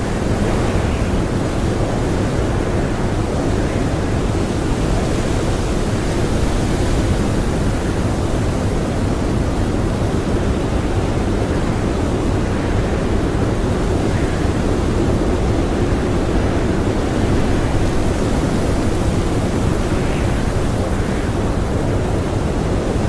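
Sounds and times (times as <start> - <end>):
howling blizzard wind: 0.0 - 23.0.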